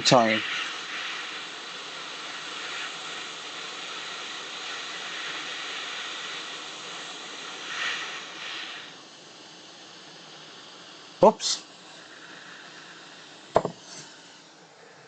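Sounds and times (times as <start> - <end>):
hot air rework station hissing: 0.0 - 15.0.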